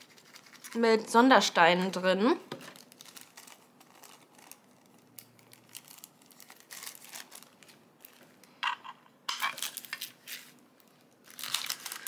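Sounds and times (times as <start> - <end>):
plastic packets crinkling: 0.0 - 1.0, 2.5 - 8.6, 9.4 - 12.0.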